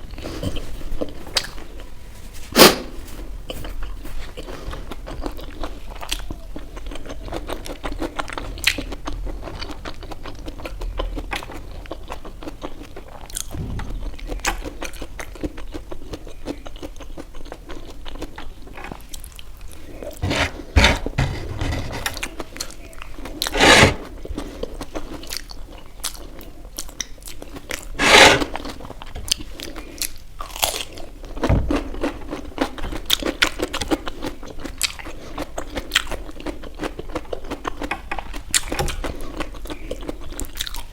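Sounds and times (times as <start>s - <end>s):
person chewing crunchy food: 3.5s - 13.5s, 14.4s - 40.9s.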